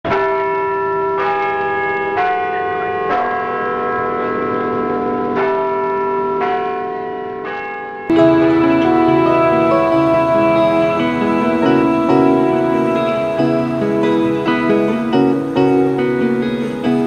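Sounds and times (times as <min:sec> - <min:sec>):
church bells ringing: 0:00.1 - 0:17.0.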